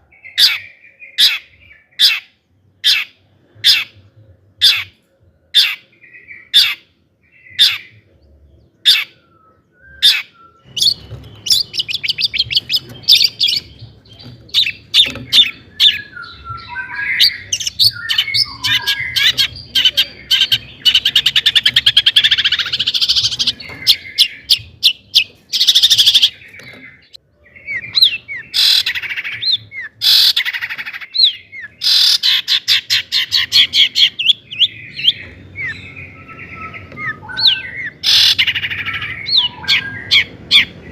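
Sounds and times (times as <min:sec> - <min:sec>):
bird chattering song: 0:00.1 - 0:40.9.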